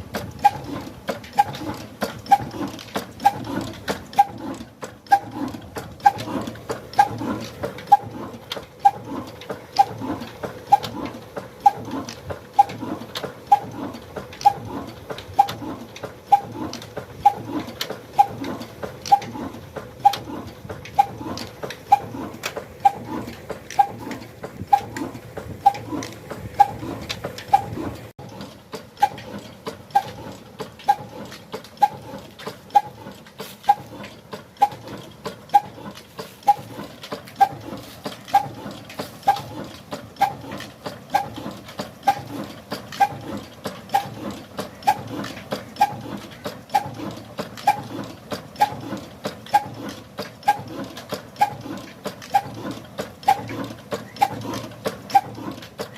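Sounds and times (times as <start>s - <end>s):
diesel engine chugging: 0.0s - 55.9s.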